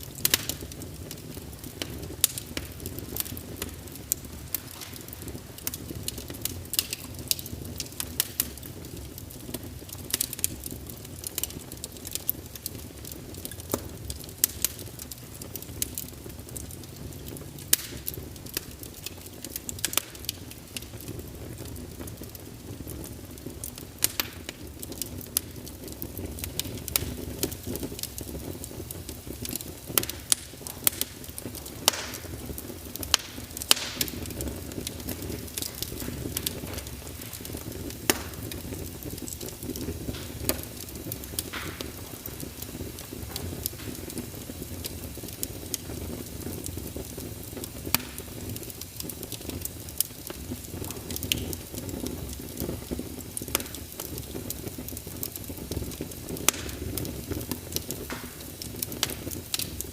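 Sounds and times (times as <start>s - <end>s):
low rush of flames: 0.0s - 59.9s
wood fire crackling and popping: 0.0s - 59.9s.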